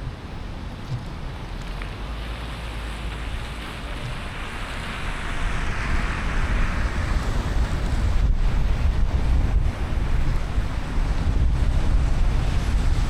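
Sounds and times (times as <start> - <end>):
road rumble: 0.0 - 13.0
tyre hiss on wet road: 1.6 - 13.0.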